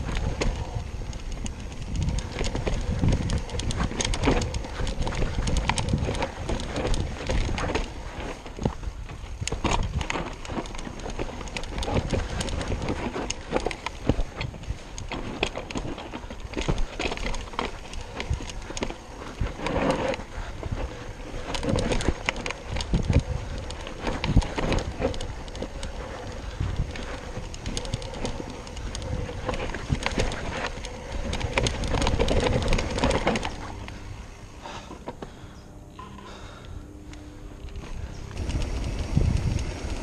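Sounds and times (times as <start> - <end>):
wind on microphone: 0.0 - 33.9, 38.0 - 40.0
bike rattling and knocking: 0.0 - 37.0, 37.6 - 40.0
tyres running over dirt: 0.0 - 40.0.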